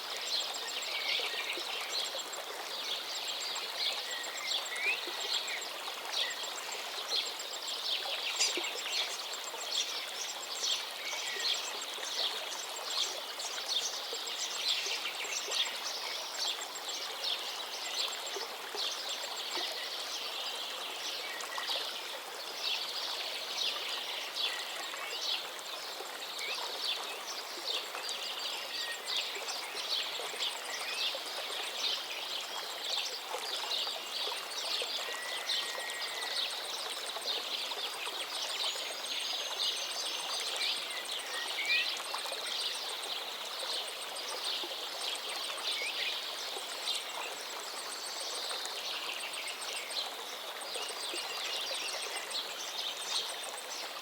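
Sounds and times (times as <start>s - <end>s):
forest river flowing: 0.0s - 54.0s.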